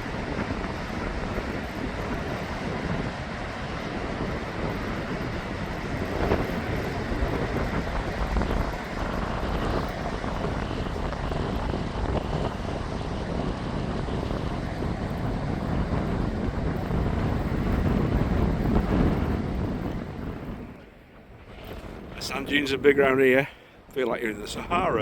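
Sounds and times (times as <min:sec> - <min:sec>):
strong wind over microphone: 0:00.0 - 0:25.0.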